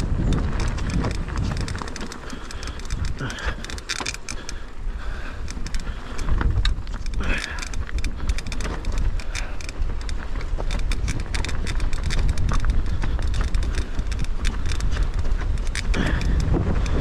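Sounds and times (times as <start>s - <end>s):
bike tyres rattling over rocks: 0.0s - 17.0s
wind buffeting microphone: 0.0s - 17.0s.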